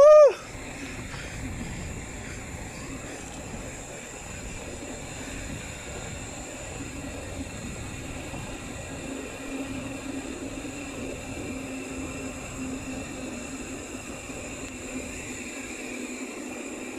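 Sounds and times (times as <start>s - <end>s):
bike tyres rolling on asphalt: 0.0s - 16.9s
steady low hum: 0.0s - 16.9s
wind rushing over microphone: 0.0s - 16.9s.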